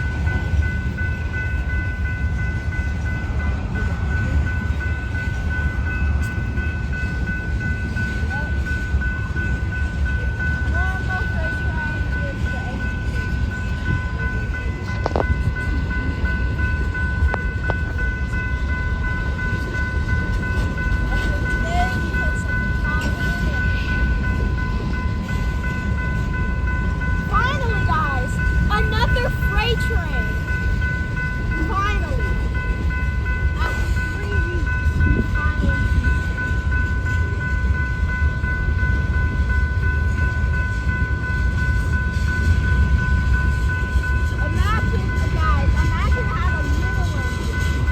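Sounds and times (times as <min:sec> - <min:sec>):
freight train rumble: 0:00.0 - 0:47.9.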